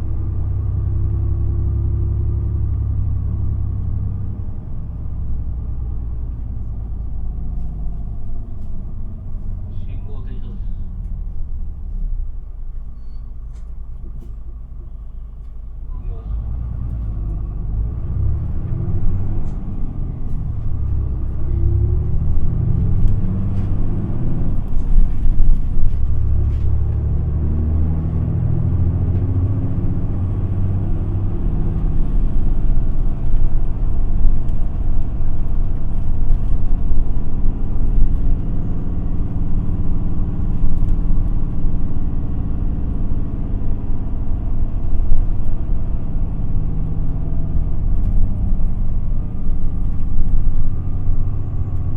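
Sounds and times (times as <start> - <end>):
bus diesel engine: 0.0 - 51.9
heavy road rumble: 0.0 - 51.9.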